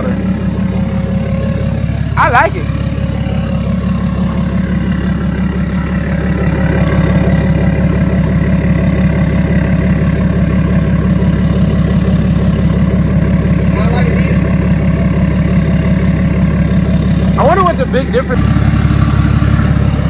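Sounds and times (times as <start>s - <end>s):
diesel engine idling: 0.0s - 20.0s
high turbo whistle: 0.0s - 20.0s.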